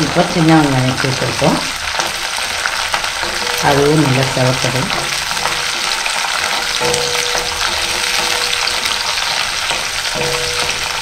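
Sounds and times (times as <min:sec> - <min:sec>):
shallots and garlic sizzling in oil: 0:00.0 - 0:11.0.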